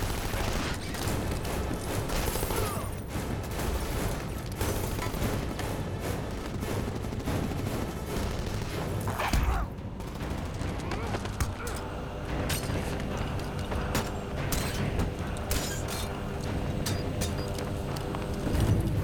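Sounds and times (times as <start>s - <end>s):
dramatic score music: 0.0s - 19.0s
heavy rumble: 0.0s - 19.0s
rapid rattling bangs and clatter: 0.0s - 19.0s.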